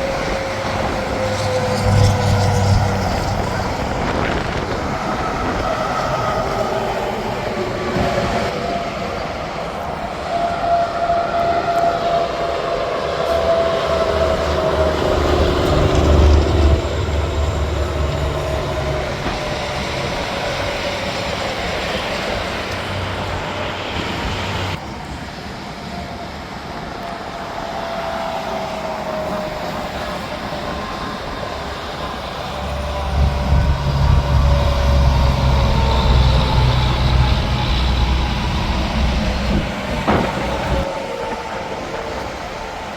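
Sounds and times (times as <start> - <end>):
highway traffic tyre roar: 0.0 - 42.7.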